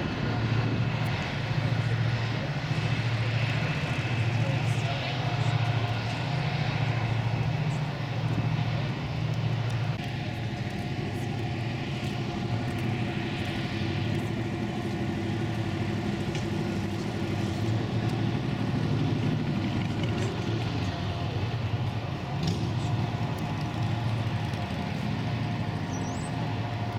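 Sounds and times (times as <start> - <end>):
boat diesel engines rumbling: 0.0 - 26.9.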